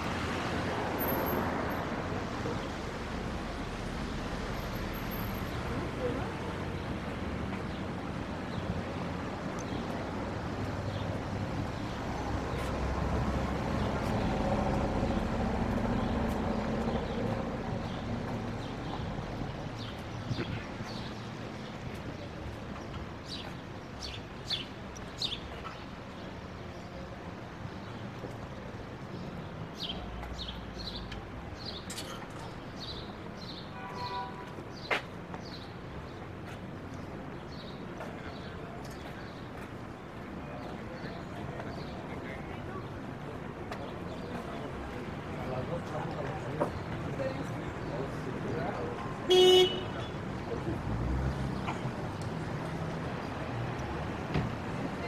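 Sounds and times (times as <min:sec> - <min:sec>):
low traffic rumble: 0:00.0 - 0:55.0.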